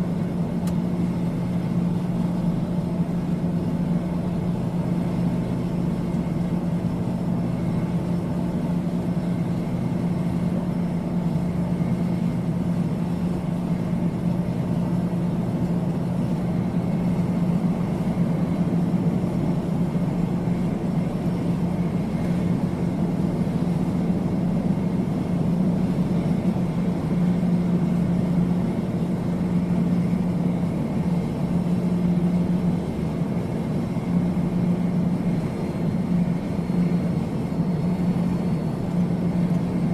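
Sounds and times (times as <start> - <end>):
airplane engine drone: 0.0 - 39.9.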